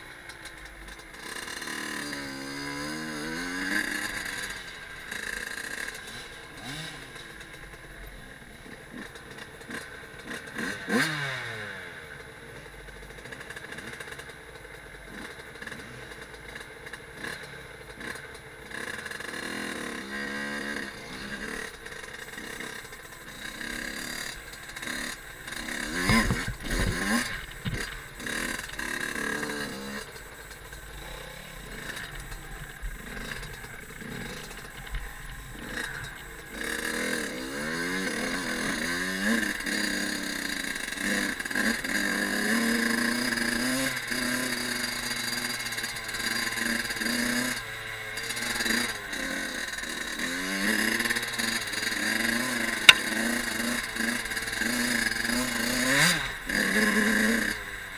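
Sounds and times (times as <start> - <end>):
two-stroke engine revving: 0.0 - 57.9.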